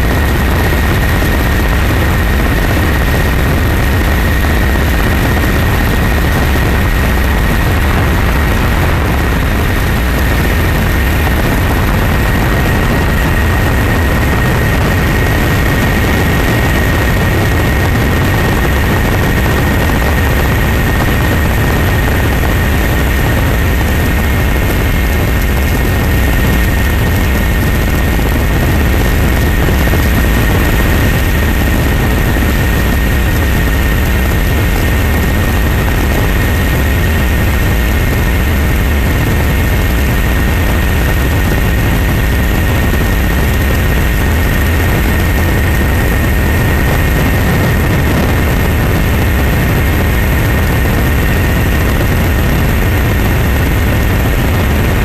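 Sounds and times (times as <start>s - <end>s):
helicopter engine and rotor drone: 0.0s - 55.0s
high whine: 0.0s - 55.0s.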